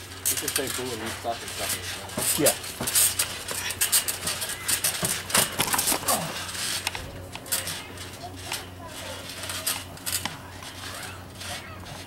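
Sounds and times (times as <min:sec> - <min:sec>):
trampoline springs creaking: 0:00.0 - 0:12.0.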